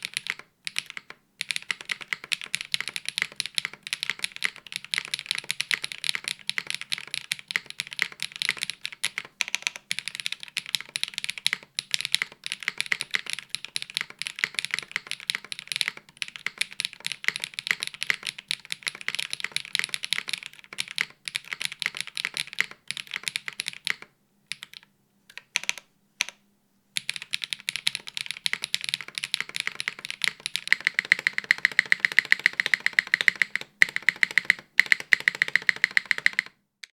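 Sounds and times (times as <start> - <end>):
clacky mechanical keyboard typing: 0.0 - 26.4, 27.0 - 36.6.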